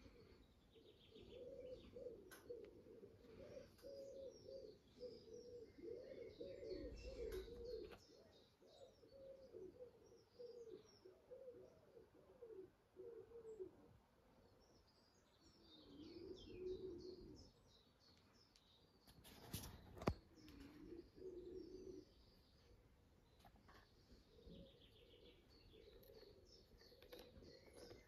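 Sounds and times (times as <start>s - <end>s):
bird chirping: 0.0s - 13.7s, 14.4s - 28.0s
bird cooing: 0.0s - 14.0s, 14.9s - 17.8s, 20.0s - 22.9s, 23.7s - 28.0s.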